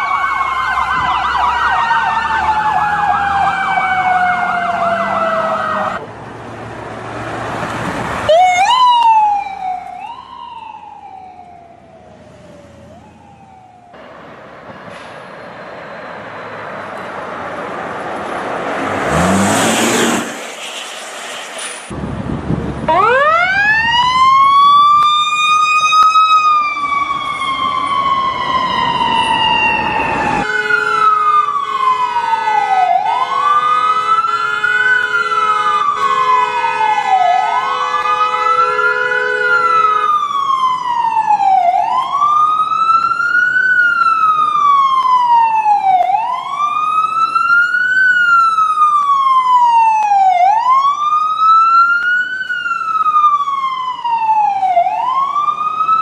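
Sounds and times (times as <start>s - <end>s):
ambulance siren: 0.0s - 6.1s, 8.2s - 14.3s, 21.9s - 56.0s.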